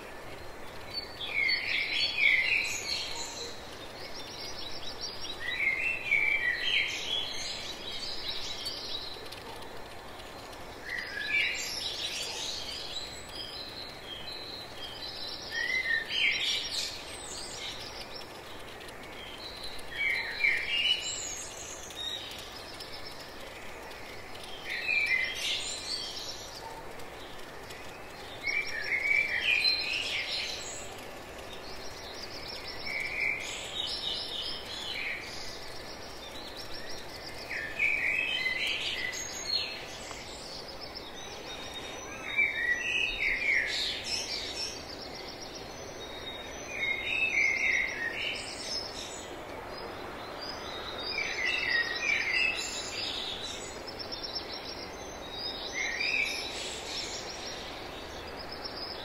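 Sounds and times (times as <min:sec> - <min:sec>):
outdoor ambient hiss: 0:00.0 - 0:59.0
songbird chirping: 0:00.0 - 0:59.0.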